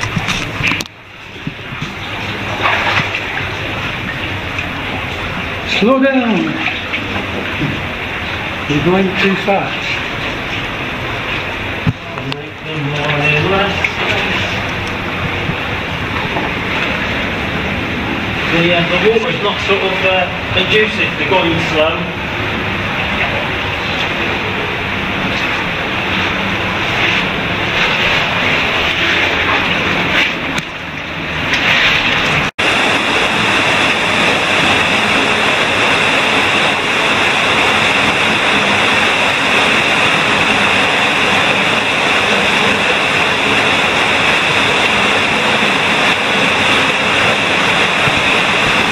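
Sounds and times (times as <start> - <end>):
fast-flowing water rushing: 0.0 - 48.9.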